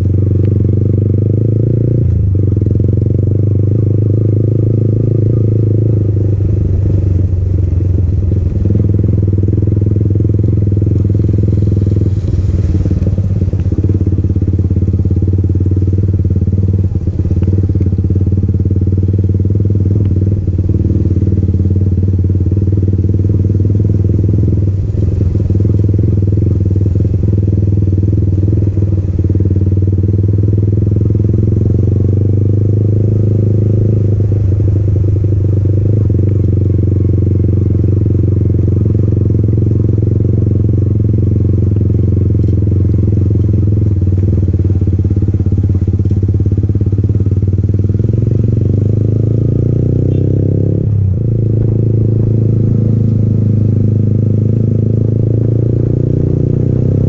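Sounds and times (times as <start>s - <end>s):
motorcycle exhaust at steady revs: 0.0s - 57.0s.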